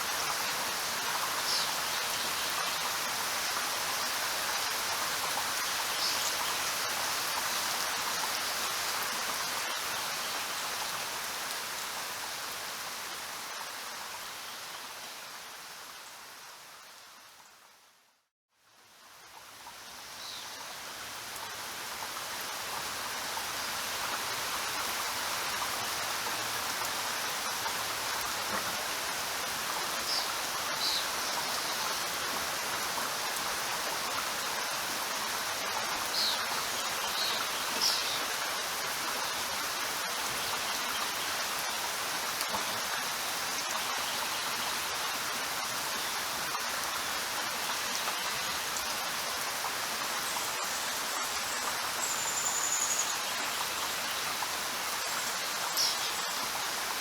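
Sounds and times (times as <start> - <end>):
heavy rain: 0.0 - 17.3, 18.8 - 57.0.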